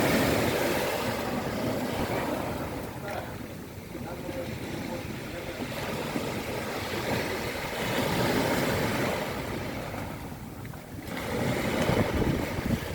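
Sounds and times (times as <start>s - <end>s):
sea washing on shore: 0.0s - 12.9s
wind buffeting microphone: 0.0s - 12.9s.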